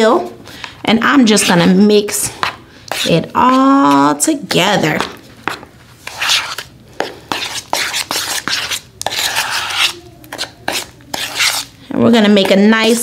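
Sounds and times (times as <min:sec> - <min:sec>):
spoon stirring thick dip in bowl: 0:00.0 - 0:13.0.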